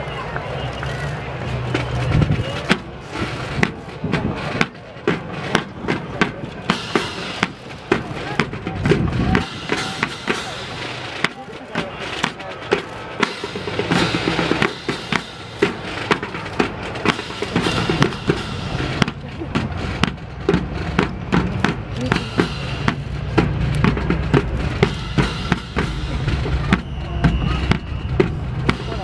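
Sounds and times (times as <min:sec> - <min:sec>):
snare and bass drums marching: 0:00.6 - 0:29.0.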